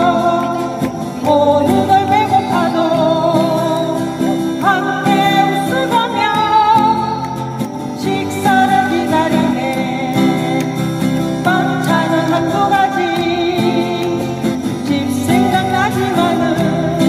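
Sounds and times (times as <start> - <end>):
acoustic guitar strumming: 0.0 - 17.0
person singing folk song: 0.0 - 17.0.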